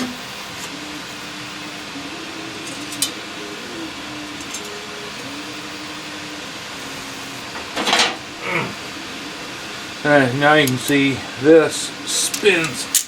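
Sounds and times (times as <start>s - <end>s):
fan or air conditioner noise: 0.0s - 13.0s.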